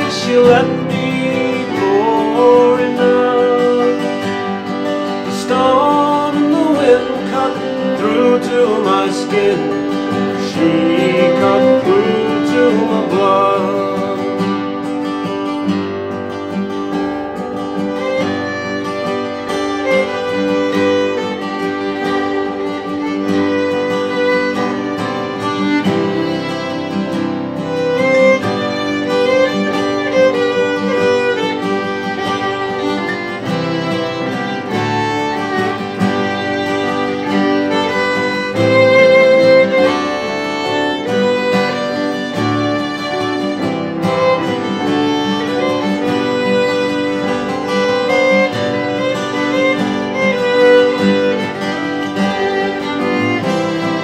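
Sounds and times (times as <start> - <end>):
acoustic guitars: 0.0 - 54.0
violin melody: 0.0 - 54.0.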